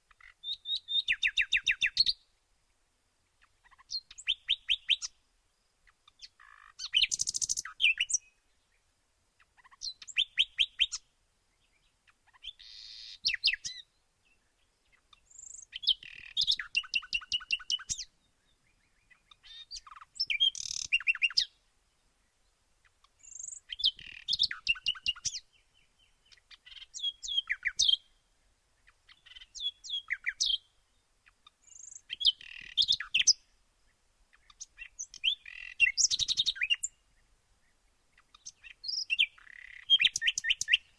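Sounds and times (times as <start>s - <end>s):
birds chirping: 5.8s - 28.2s, 28.8s - 40.9s.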